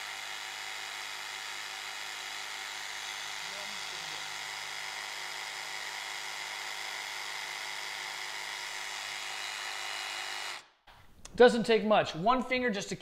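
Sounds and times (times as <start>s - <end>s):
jigsaw motor whirring: 0.0s - 10.7s.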